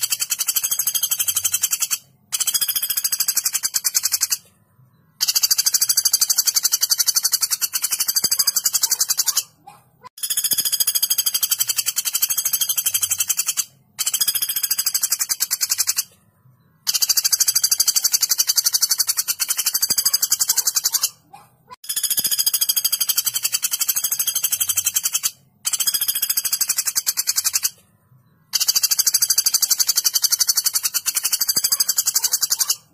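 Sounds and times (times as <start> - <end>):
woodpecker rattling call: 0.0 - 4.4, 5.2 - 16.1, 16.8 - 21.2, 21.8 - 27.8, 28.5 - 32.9.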